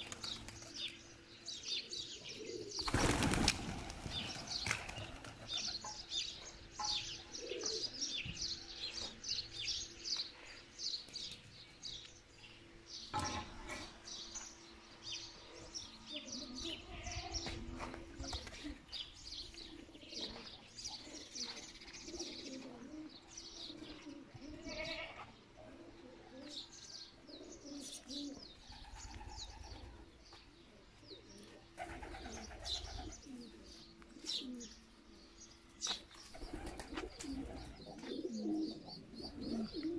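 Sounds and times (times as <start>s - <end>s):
pigeons cooing: 0.0s - 9.9s, 15.8s - 30.2s, 30.8s - 39.9s.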